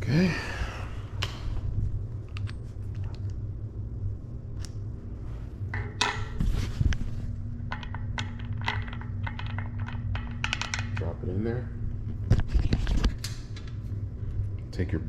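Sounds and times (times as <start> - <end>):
low rumble: 0.0 - 14.7
steady low hum: 0.0 - 15.0.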